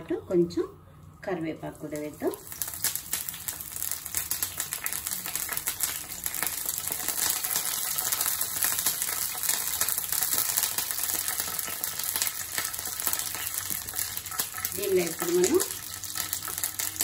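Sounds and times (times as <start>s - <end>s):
leaves spluttering in hot oil: 1.6s - 17.0s.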